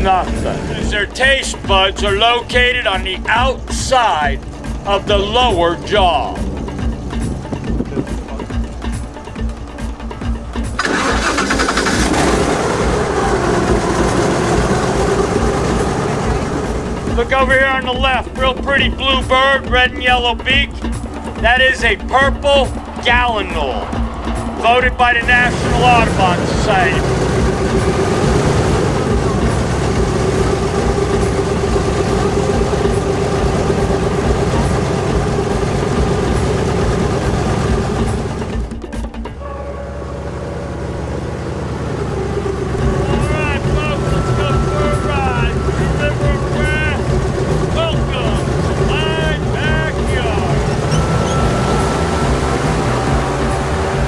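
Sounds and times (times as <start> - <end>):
airboat engine and propeller: 0.0 - 54.0.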